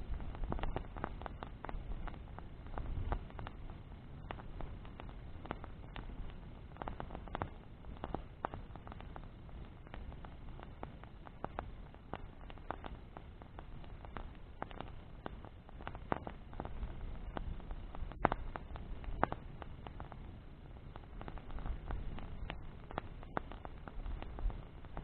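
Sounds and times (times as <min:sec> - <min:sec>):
bonfire crackles and pops: 0:00.0 - 0:25.0
low rumble of fire: 0:00.0 - 0:25.0.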